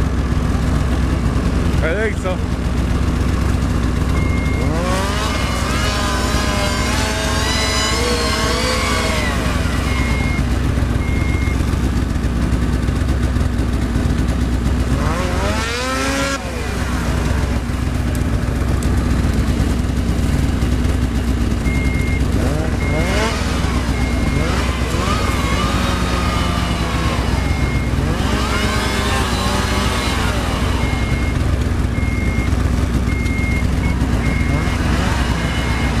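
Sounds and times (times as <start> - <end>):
snowmobile engine revving: 1.2 - 36.0.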